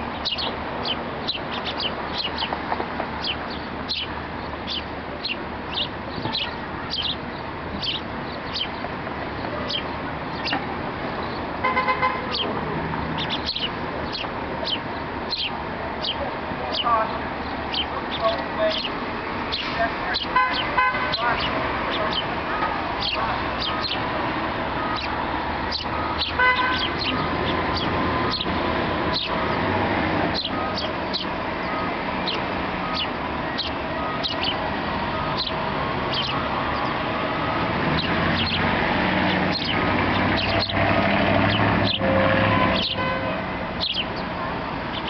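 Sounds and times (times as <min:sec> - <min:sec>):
birds chirping: 0:00.0 - 0:45.0
traffic hum: 0:00.0 - 0:45.0.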